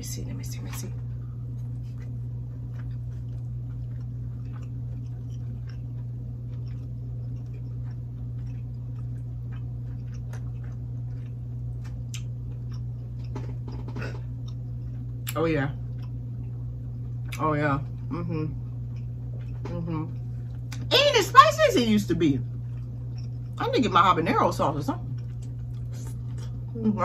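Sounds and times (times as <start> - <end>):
low hum: 0.0 - 27.0
people chewing food: 0.5 - 21.0, 22.2 - 27.0.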